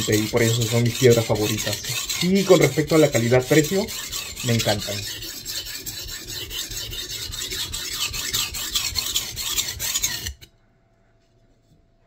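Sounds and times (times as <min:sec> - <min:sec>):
knife grinding on whetstone: 0:00.0 - 0:10.5.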